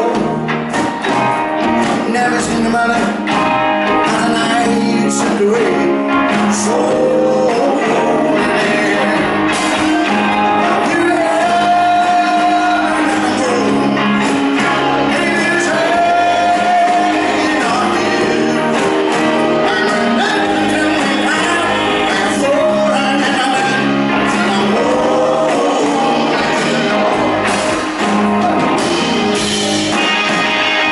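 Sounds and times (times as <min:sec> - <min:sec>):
man singing: 0:00.0 - 0:00.5, 0:02.0 - 0:27.2
drums: 0:00.0 - 0:30.9
electric guitar: 0:00.0 - 0:30.9.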